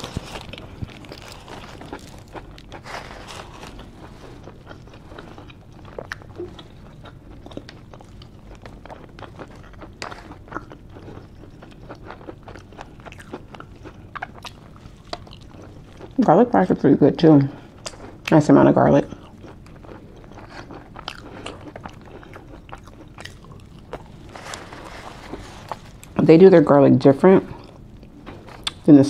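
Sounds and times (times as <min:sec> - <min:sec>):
person chewing food: 0:00.0 - 0:16.2, 0:17.6 - 0:18.4, 0:19.0 - 0:26.2, 0:27.5 - 0:28.9.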